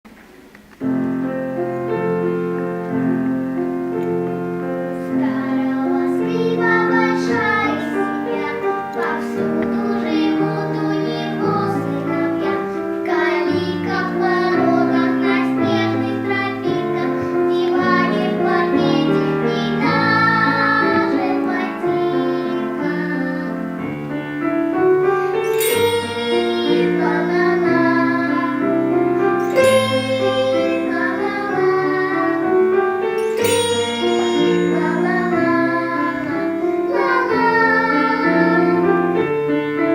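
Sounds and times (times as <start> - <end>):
piano accompaniment: 0.1 - 39.9
solo melody: 0.1 - 39.9.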